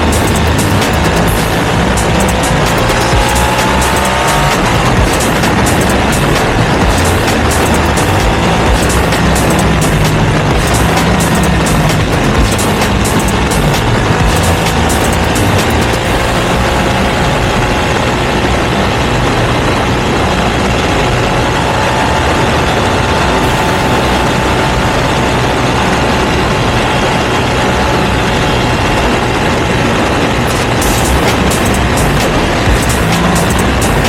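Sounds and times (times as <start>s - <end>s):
motorcycle engine running steadily: 0.0s - 34.0s.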